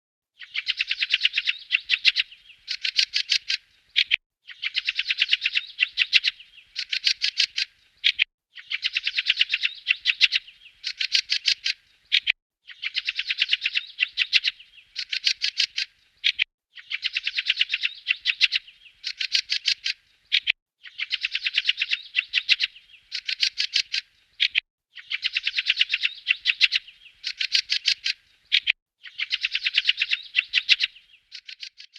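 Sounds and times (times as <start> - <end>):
bird chirping in quick bursts: 0.4 - 31.9.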